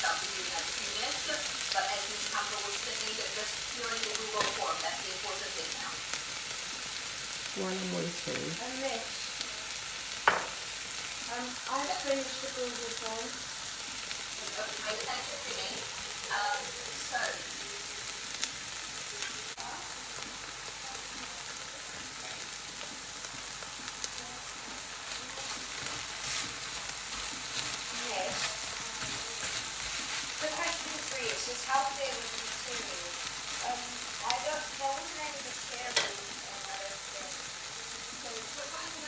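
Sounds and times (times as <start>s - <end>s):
oil sizzling in a pan: 0.0s - 39.0s.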